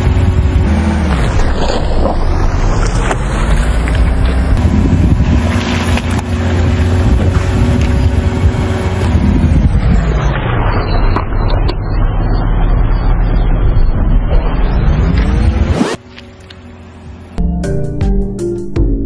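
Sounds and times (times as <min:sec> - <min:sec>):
car engine running: 0:00.0 - 0:17.5.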